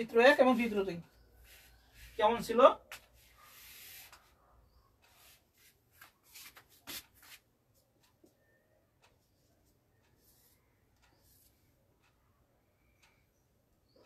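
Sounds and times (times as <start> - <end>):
marker pen on whiteboard: 0.0 - 12.3.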